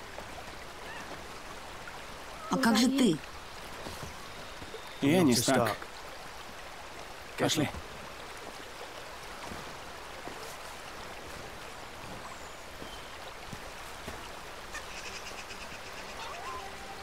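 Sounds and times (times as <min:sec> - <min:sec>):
rocky stream flowing: 0:00.0 - 0:17.0.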